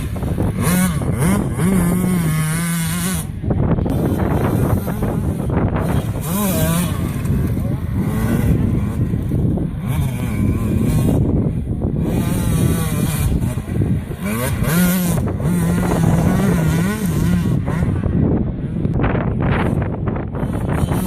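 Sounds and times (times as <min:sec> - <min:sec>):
motocross engines revving: 0:00.0 - 0:21.0.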